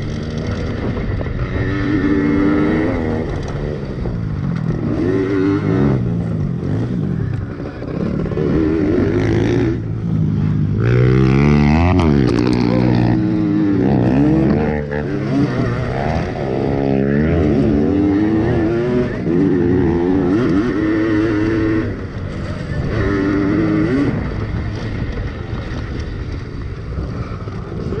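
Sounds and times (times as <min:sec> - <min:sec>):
two-stroke engines revving: 0:00.0 - 0:28.0.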